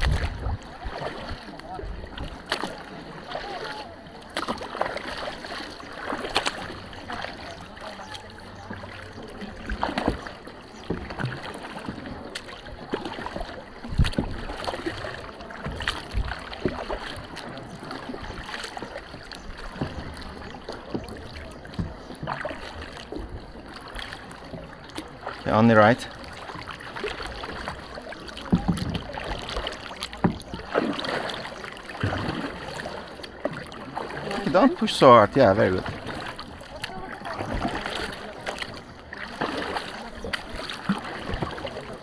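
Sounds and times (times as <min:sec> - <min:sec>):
paddles splashing in water: 0:00.0 - 0:42.0.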